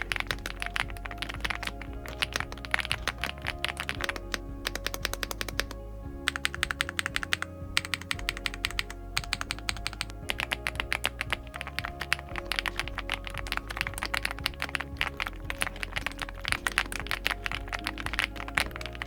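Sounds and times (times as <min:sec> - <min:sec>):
background music: 0:00.0 - 0:19.0
mechanical keyboard typing: 0:00.0 - 0:19.0.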